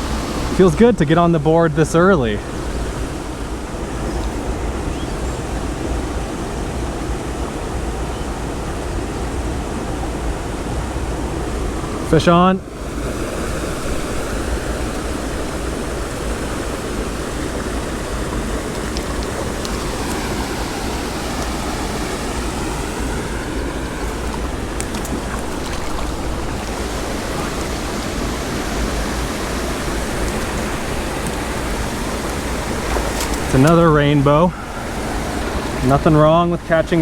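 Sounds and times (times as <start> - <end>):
creek water running: 0.0 - 37.0.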